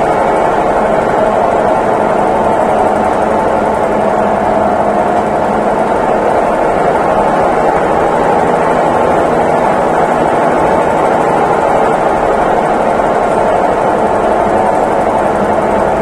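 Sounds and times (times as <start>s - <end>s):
washing machine whirring: 0.0s - 16.0s.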